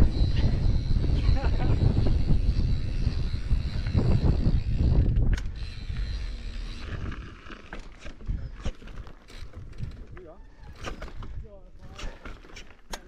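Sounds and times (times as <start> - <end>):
wind rumbling on microphone: 0.0 - 7.4, 8.1 - 12.4
bike tyres rolling on trail: 0.0 - 12.9.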